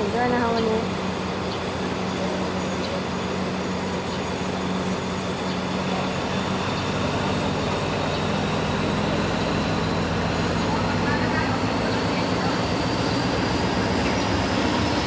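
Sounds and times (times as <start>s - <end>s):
diesel locomotive drone: 0.0s - 15.0s.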